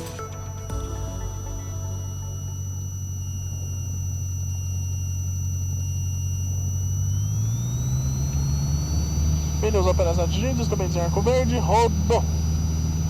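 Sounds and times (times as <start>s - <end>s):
light aircraft piston engine: 0.0s - 13.0s.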